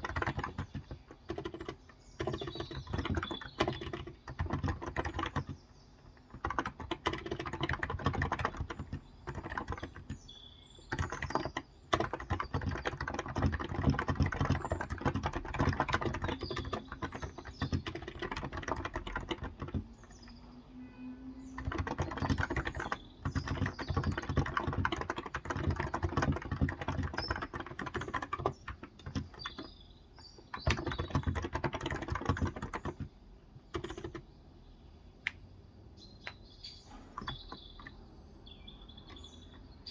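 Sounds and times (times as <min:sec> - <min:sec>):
fast keyboard typing: 0:00.0 - 0:20.4, 0:21.5 - 0:34.3, 0:37.1 - 0:38.0
birds chirping faintly: 0:00.0 - 0:39.9.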